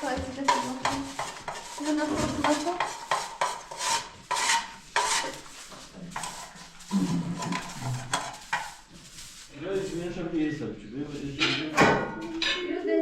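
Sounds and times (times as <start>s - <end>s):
metal pots clattering and scraping: 0.0s - 10.6s, 11.2s - 13.0s.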